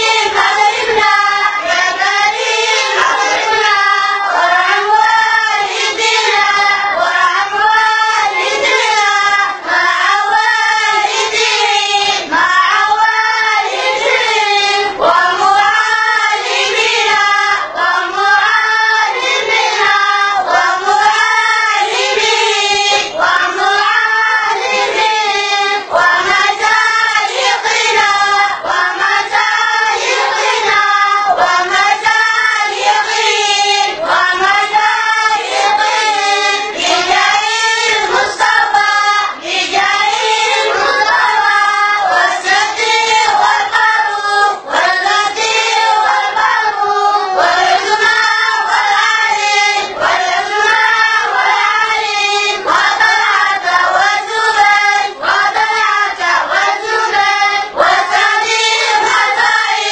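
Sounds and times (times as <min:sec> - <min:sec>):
boys singing together: 0:00.0 - 0:59.9.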